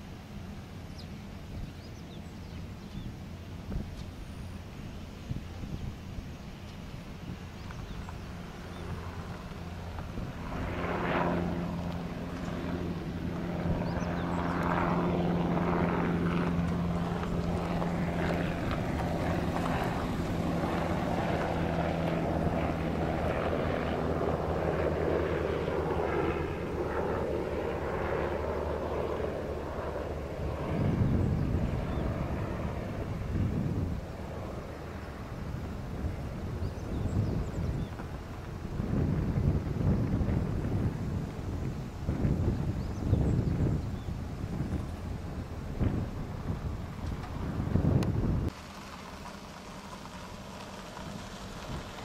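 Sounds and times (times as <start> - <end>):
helicopter rotors beating: 0.0 - 52.0.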